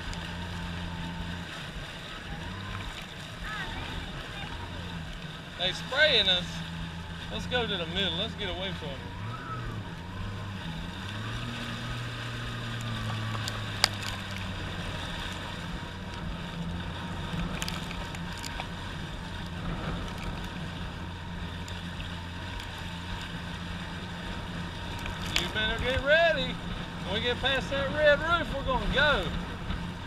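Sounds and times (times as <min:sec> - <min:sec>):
jet ski engine running: 0:00.0 - 0:30.0
water and wind noise: 0:00.0 - 0:30.0.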